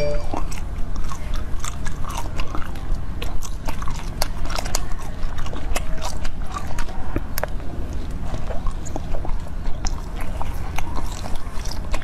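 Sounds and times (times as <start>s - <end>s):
crackly biting and chewing: 0.0s - 12.0s.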